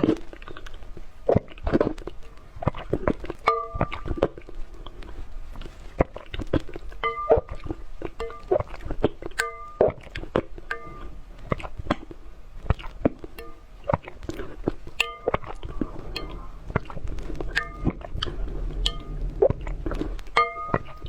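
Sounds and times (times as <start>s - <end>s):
egg being chewed: 0.0s - 21.0s.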